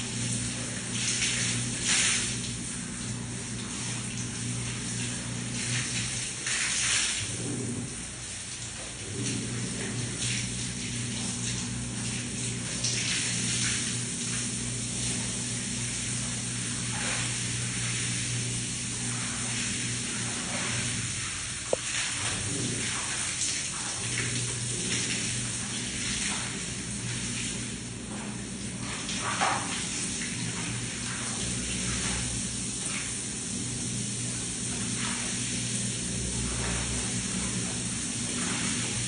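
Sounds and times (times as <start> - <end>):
shower water splashing on tiles: 0.0 - 39.0
steady low hum: 0.0 - 39.0.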